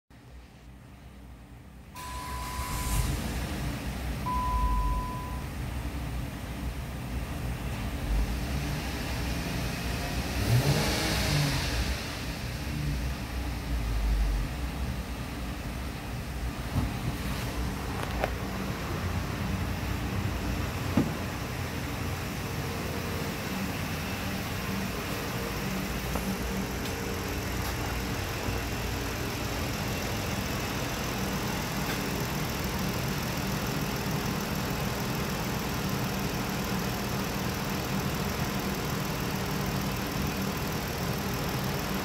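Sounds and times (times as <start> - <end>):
car engine idling: 1.1 - 8.6, 11.8 - 42.0.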